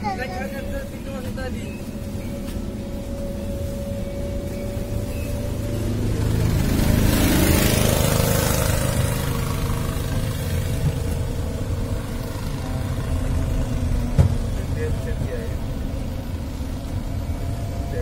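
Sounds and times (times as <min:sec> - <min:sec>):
rush of road noise: 0:00.0 - 0:18.0
vehicle engine and road rumble: 0:00.0 - 0:18.0.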